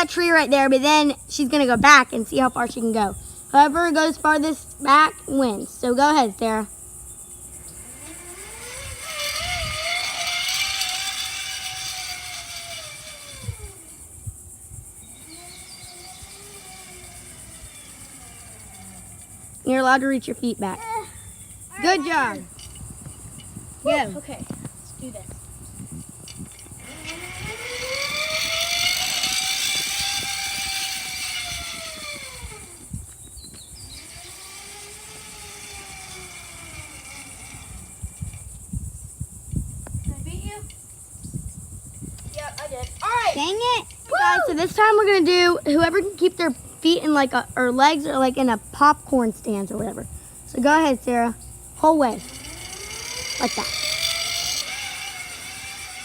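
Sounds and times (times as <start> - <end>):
insects buzzing: 0.0 - 56.0
zip line trolley whine: 0.0 - 56.0.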